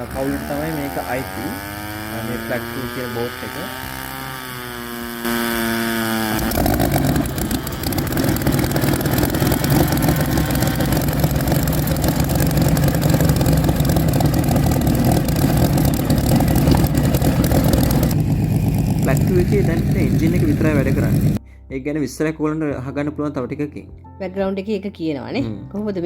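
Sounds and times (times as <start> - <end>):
aero engine running loud: 0.0 - 21.4.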